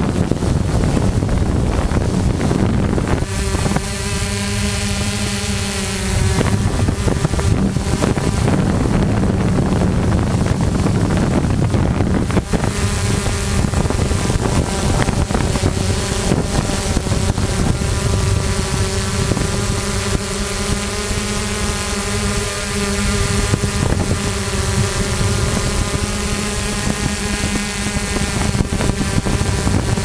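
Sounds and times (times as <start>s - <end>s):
drone propellers humming: 0.0s - 30.0s
wind buffeting microphone: 0.0s - 30.0s.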